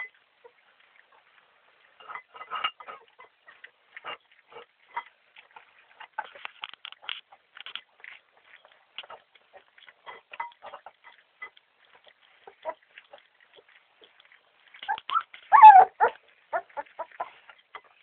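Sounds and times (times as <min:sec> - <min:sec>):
puppies chewing and smacking: 0:00.0 - 0:18.0.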